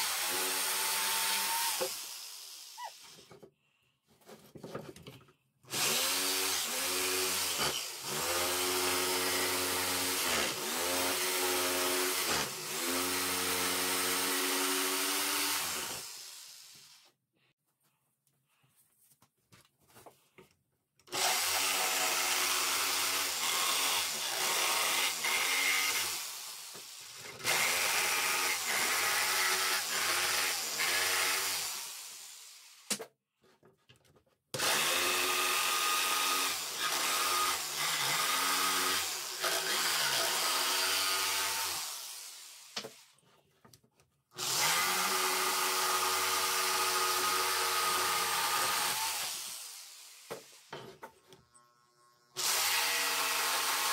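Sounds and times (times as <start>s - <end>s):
jigsaw cutting wood: 0.0s - 3.4s, 5.7s - 17.1s, 21.1s - 32.9s, 34.5s - 43.2s, 44.3s - 51.1s, 52.4s - 53.9s.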